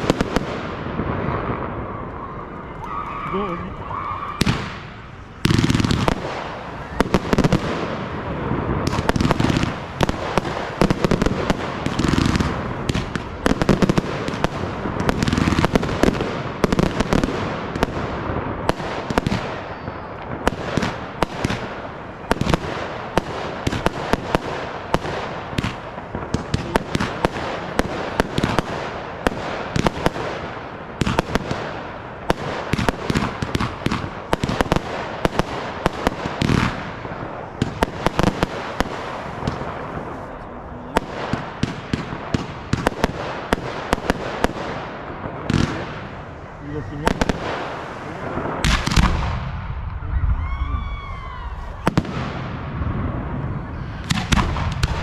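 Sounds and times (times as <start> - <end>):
deep fireworks booms: 0.0 - 55.0
fireworks cracking and banging: 0.0 - 55.0.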